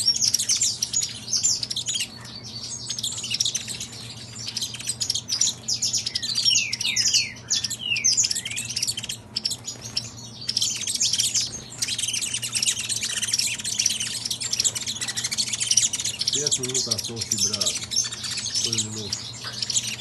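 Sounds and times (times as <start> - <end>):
finches singing: 0.0 - 20.0.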